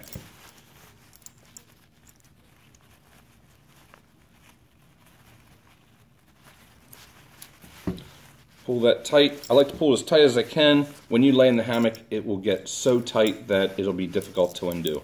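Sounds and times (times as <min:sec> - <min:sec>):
rustling of hammock fabric: 0:00.0 - 0:15.0.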